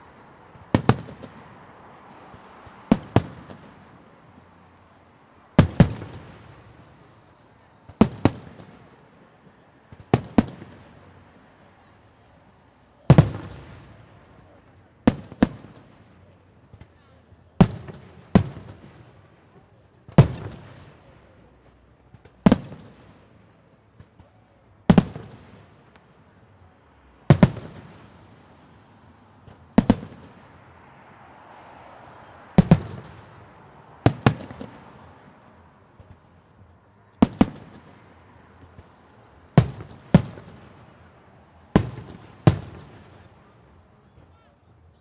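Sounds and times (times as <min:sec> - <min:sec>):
fireworks bangs with rolling echo: 0:00.0 - 0:44.3.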